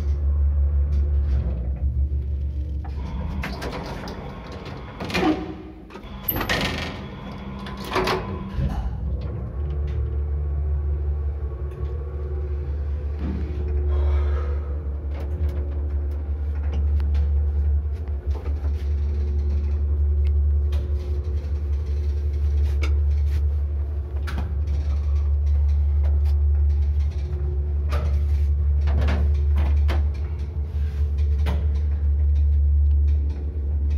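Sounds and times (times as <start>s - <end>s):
elevator low hum: 0.0s - 33.9s.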